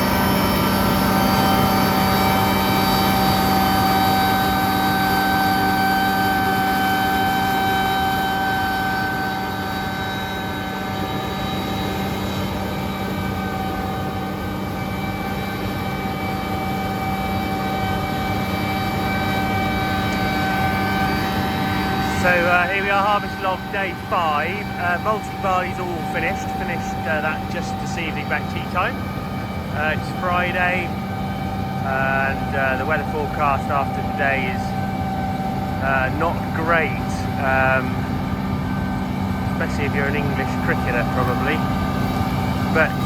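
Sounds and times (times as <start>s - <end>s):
combine harvester droning: 0.0s - 43.0s.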